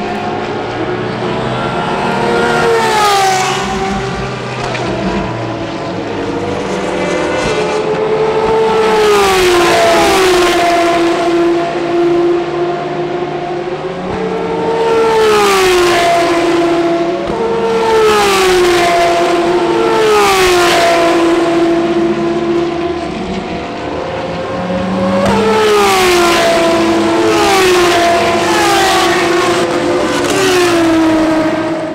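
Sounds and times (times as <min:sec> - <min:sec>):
race car engines at speed: 0:00.0 - 0:31.9.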